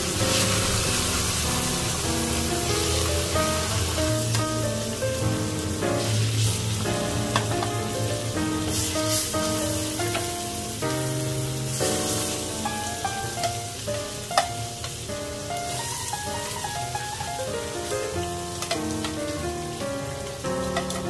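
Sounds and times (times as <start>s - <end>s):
background music of held notes: 0.0s - 21.0s
food sizzling in a pan: 0.0s - 21.0s.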